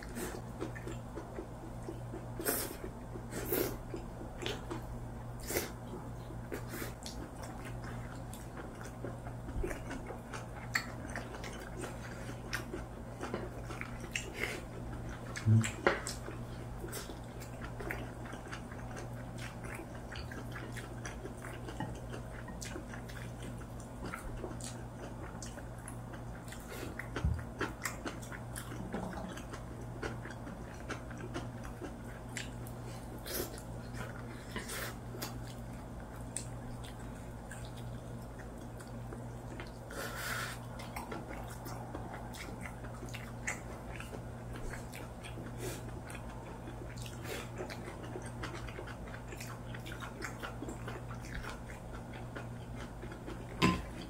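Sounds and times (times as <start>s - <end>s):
chewing and lip-smacking: 0.0s - 54.0s
steady low hum: 0.0s - 54.0s.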